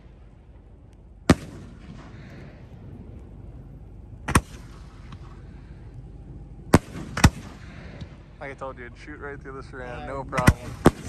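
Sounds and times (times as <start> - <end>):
firework shells banging: 0.0 - 8.8, 9.4 - 11.0.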